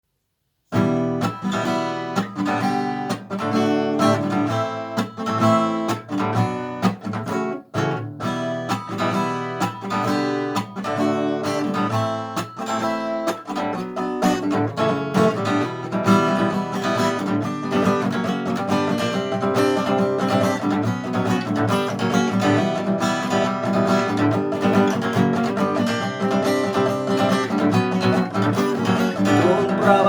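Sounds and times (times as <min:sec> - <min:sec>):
acoustic guitar strumming: 0:00.7 - 0:30.0.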